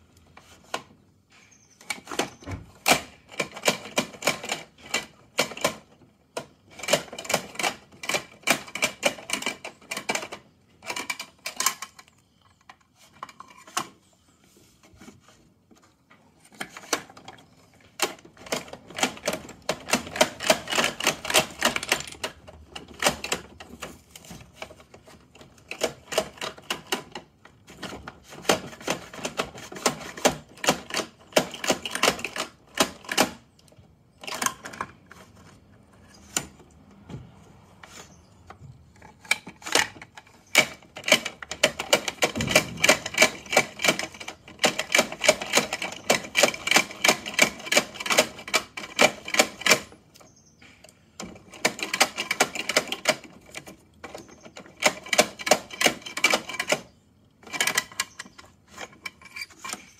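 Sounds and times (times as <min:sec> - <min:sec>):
plastic toy mechanism clicking: 0:01.8 - 0:13.9, 0:18.0 - 0:35.3, 0:38.9 - 0:59.9.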